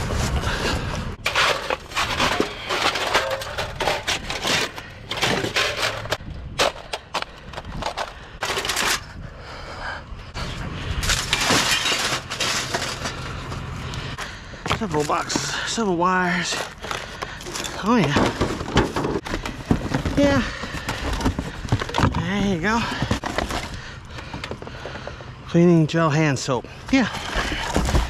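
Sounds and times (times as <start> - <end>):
scrap items clattering and knocking: 0.0 - 9.2, 10.4 - 25.4, 26.8 - 28.0.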